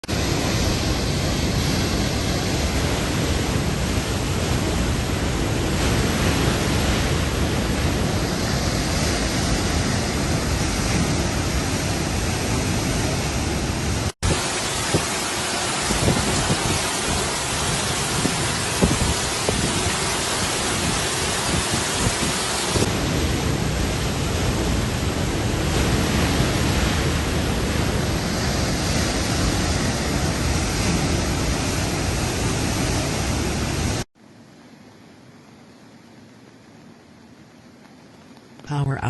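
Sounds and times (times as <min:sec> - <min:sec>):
water rushing: 0:00.0 - 0:37.4.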